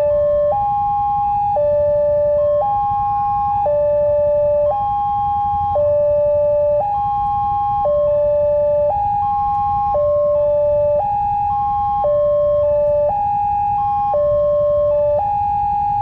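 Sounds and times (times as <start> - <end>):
level crossing two-tone alarms: 0.0 - 16.0
low background rumble: 0.0 - 16.0.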